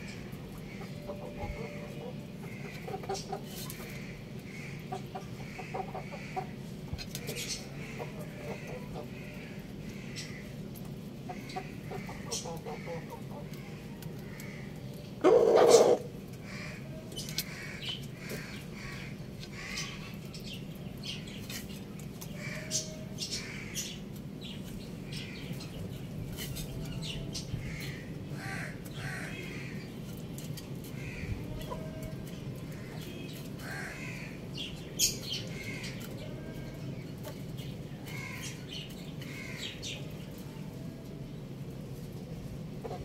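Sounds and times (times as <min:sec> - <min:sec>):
birds chirping and calling: 0:00.0 - 0:40.7.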